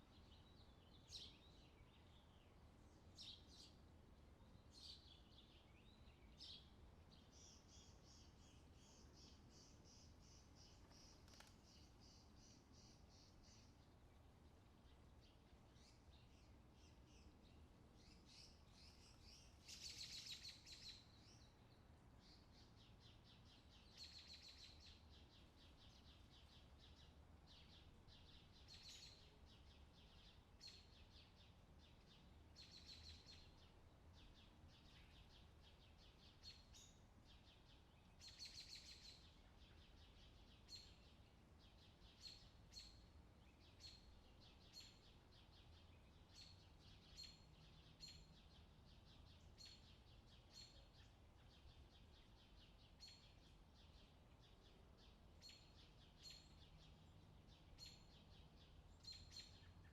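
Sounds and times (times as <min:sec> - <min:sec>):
songbird trills and chirps: 0:00.0 - 0:59.9.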